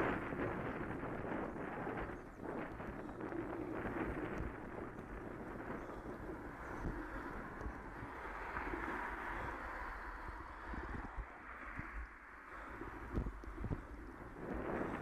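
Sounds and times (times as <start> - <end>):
bicycle rolling on tarmac: 0.0 - 15.0
wind buffeting microphone: 0.0 - 15.0.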